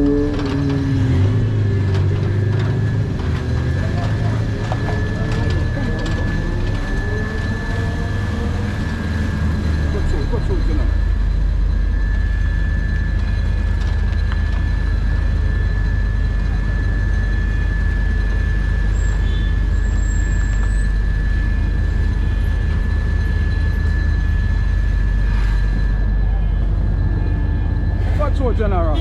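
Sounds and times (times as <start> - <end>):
diesel paving machine running: 0.0 - 29.0.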